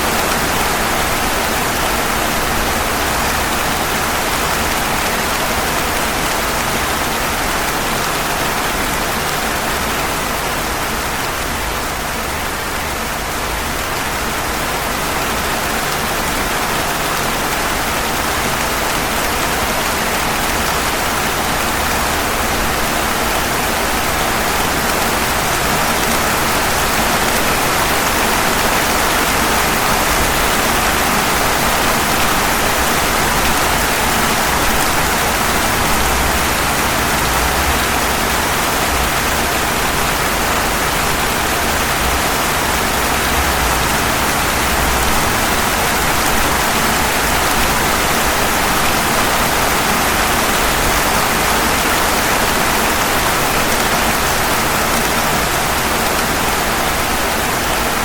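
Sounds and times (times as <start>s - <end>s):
rain falling on pavement: 0.0s - 58.0s.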